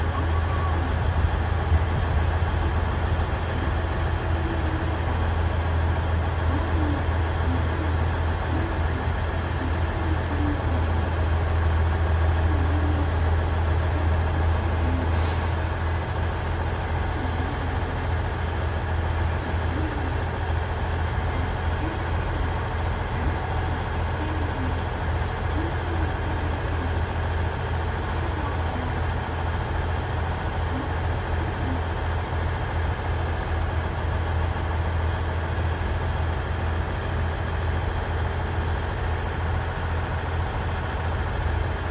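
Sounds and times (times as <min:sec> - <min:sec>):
diesel railcar engine idling: 0:00.0 - 0:41.9.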